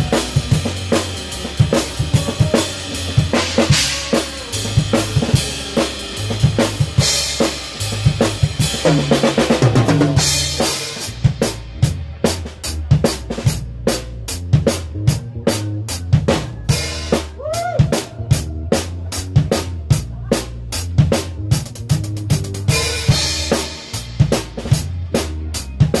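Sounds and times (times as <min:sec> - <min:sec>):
bass line: 0:00.0 - 0:26.0
drum kit playing: 0:00.0 - 0:26.0.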